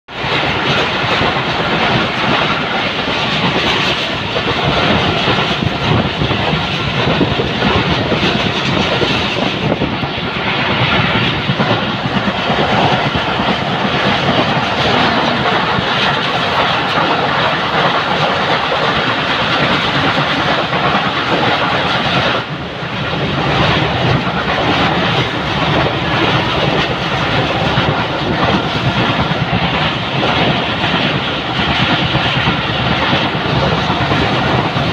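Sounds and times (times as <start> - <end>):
train wheels rumbling on rails: 0.1 - 34.9.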